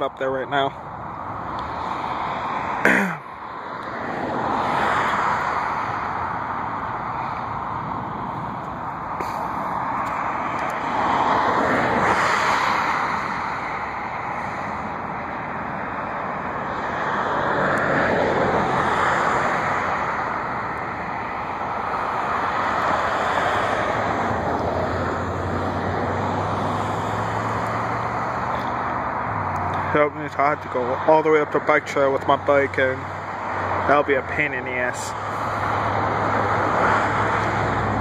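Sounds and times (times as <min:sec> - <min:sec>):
vehicle noise rushing: 0:00.0 - 0:38.0.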